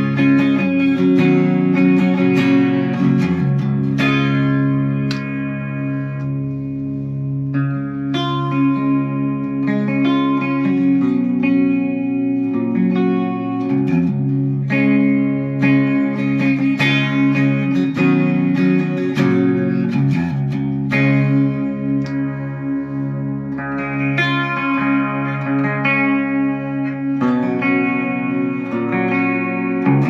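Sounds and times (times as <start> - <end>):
electric guitar chords and notes: 0.0 - 30.0.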